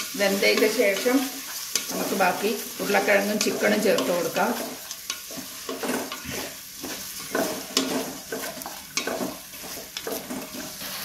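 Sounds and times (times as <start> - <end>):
spoon stirring and scraping pot: 0.0 - 11.0
vegetables sizzling in oil: 0.0 - 11.0.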